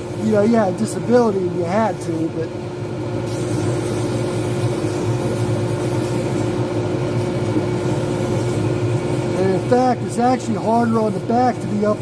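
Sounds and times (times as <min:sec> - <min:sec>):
sandpaper hissing on spinning wood: 0:00.0 - 0:02.4, 0:03.3 - 0:12.0
lathe humming: 0:00.0 - 0:12.0.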